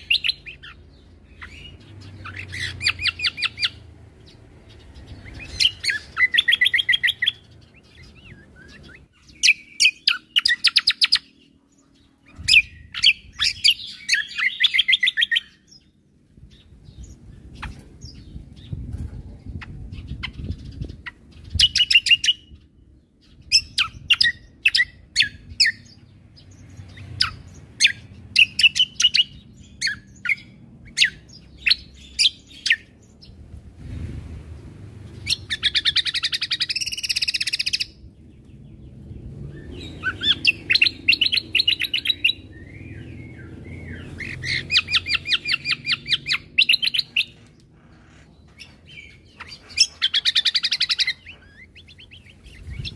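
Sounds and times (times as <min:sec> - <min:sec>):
songbird chirping and trilling: 0:00.0 - 0:52.9.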